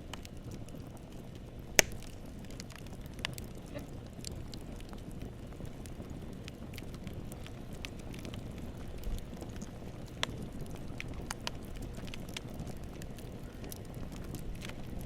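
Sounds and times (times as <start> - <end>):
burning wood crackling: 0.0 - 15.0
campfire rumble: 0.0 - 15.0.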